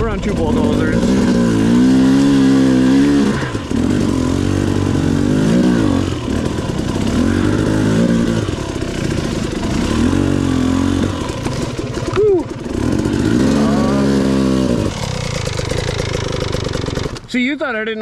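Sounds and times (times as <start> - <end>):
dirt bike engine revving: 0.0 - 17.5.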